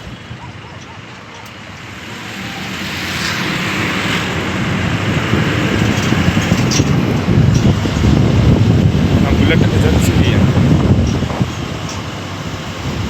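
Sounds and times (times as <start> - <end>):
highway traffic road noise: 0.0 - 13.0.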